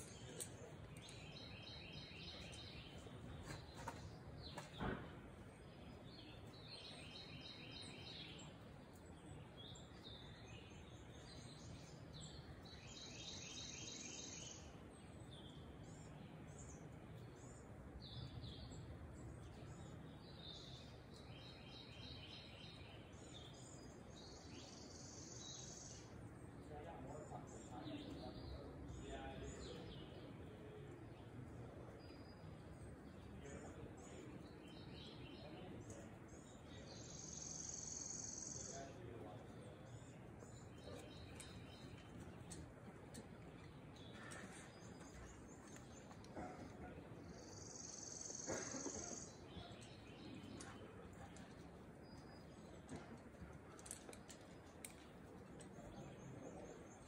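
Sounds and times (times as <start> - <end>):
faint birdsong: 0.0 - 57.0.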